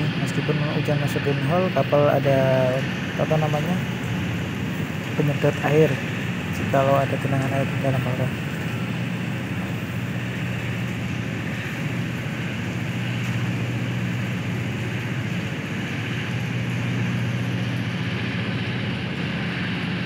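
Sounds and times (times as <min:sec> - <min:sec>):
heavy machinery droning: 0:00.0 - 0:20.0.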